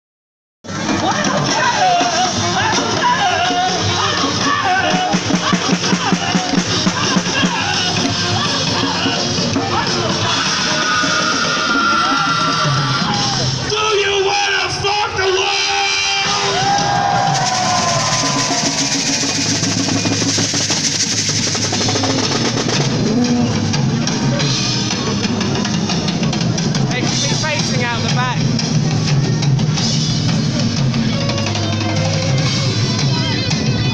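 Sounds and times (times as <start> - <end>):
punk band playing live: 0.6 - 33.9
fast drum beat: 0.7 - 10.9, 16.2 - 33.4.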